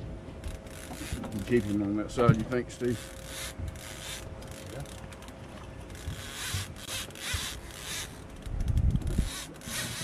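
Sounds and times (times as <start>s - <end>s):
fishing reel ratcheting and whirring: 0.4s - 10.0s.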